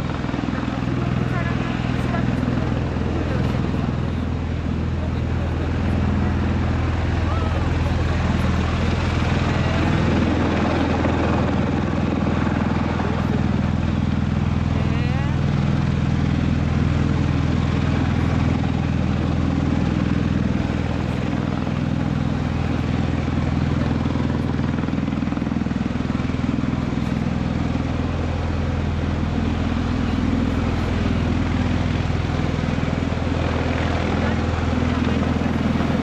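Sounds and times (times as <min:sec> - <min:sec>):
aircraft rotors droning: 0:00.0 - 0:36.0.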